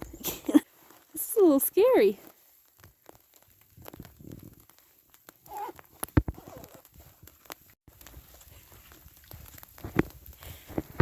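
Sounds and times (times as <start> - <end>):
hail pellets ticking: 0.0 - 11.0.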